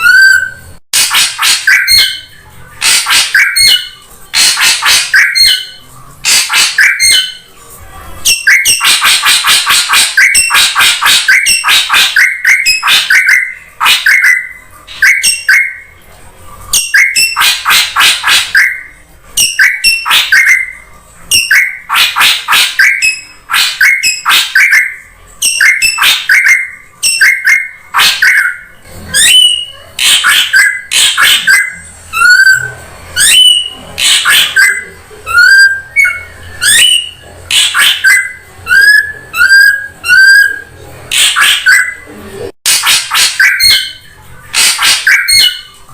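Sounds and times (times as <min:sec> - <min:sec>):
harsh chattering bird calls: 0:00.0 - 0:07.5, 0:08.2 - 0:16.0, 0:16.7 - 0:45.9
whistled bird notes: 0:00.0 - 0:07.5, 0:08.2 - 0:15.9, 0:16.7 - 0:42.1.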